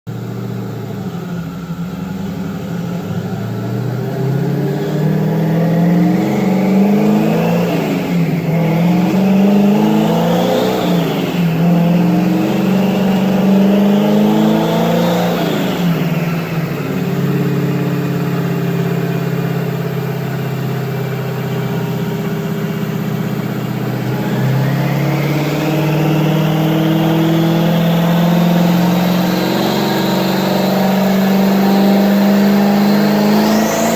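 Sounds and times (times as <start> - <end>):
car engine revving under load: 0.1 - 33.9
high turbo whine: 0.1 - 33.9.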